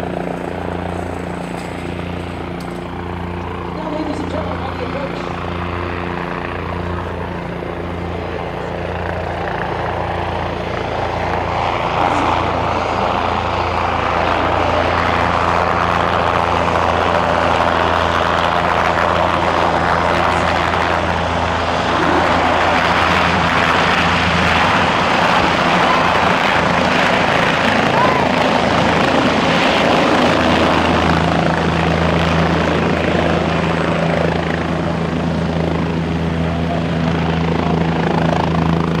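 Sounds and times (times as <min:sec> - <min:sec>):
helicopter engine and rotor drone: 0:00.0 - 0:39.0.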